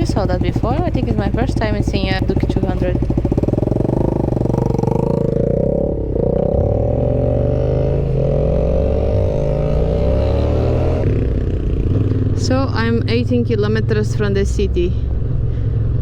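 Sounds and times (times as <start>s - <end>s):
motorcycle engine revving under load: 0.0s - 14.1s.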